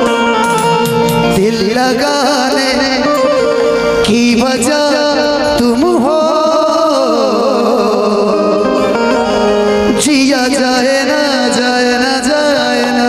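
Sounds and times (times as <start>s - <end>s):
instrumental accompaniment: 0.0s - 13.0s
person singing: 0.0s - 13.0s.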